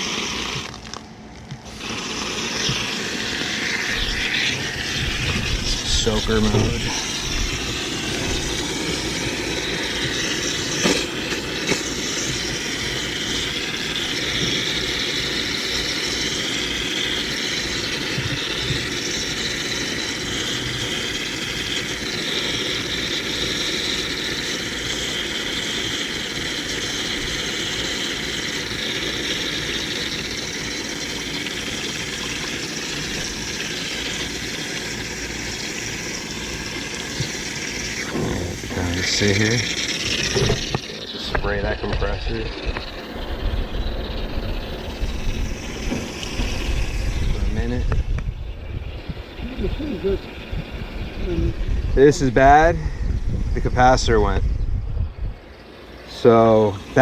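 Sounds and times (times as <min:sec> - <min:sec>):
hose spraying water: 0:00.0 - 0:54.4, 0:55.4 - 0:57.0.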